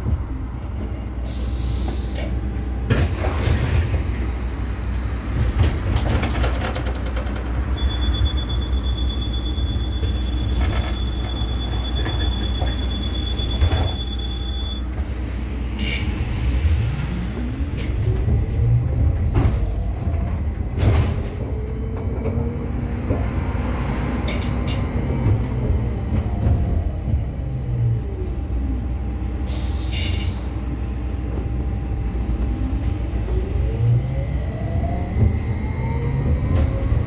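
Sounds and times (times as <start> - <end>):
low rumble of moving bus: 0.0 - 37.0.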